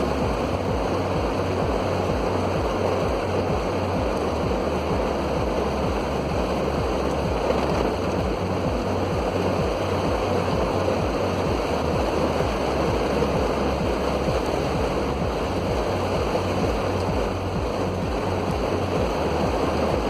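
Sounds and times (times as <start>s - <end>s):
faint music: 0.0s - 20.0s
heavy rain around a car: 0.0s - 20.0s.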